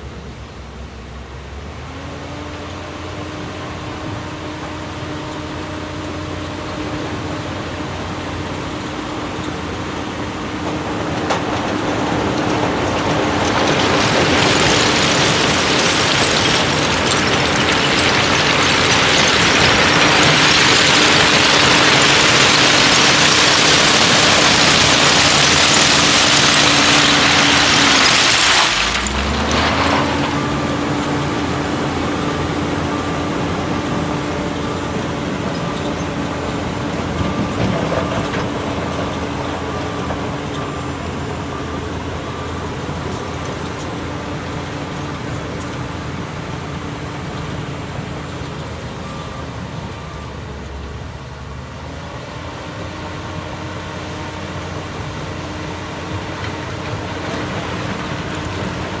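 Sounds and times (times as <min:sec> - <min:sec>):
heavy diesel engine running: 0:03.0 - 0:59.0.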